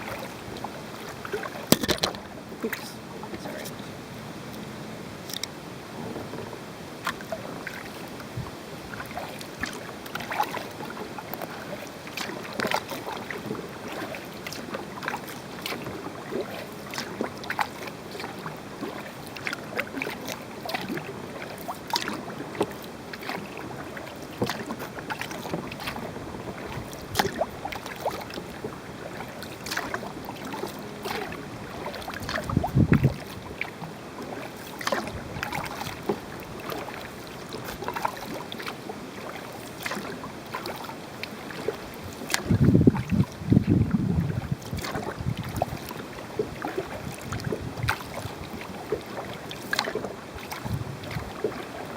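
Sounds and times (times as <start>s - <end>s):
paddle splashes and drips: 0.0s - 51.9s.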